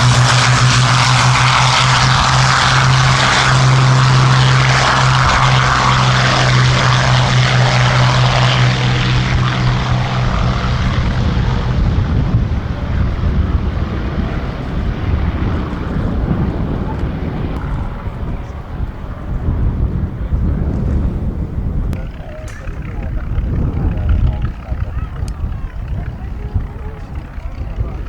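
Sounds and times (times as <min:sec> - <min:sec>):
aircraft engines droning: 0:00.0 - 0:28.0.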